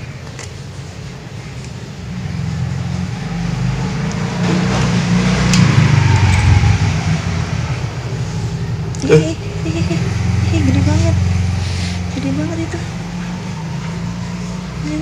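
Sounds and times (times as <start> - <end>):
vehicle engine passing close: 2.0 - 15.0.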